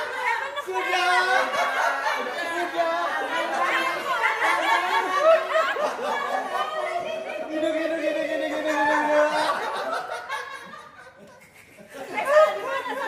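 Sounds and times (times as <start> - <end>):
people laughing: 0.0 - 13.0.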